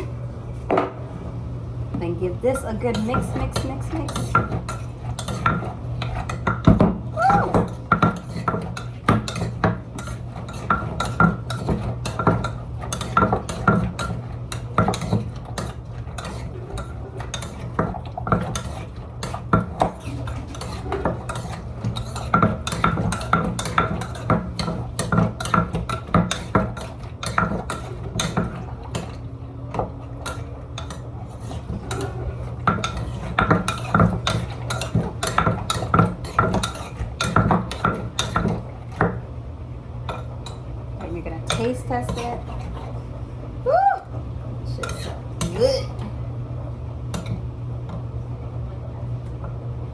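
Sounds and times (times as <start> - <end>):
steady low hum: 0.0 - 49.9
utensil scraping a bowl: 2.5 - 6.9, 7.5 - 39.2, 40.1 - 43.3, 44.7 - 46.0.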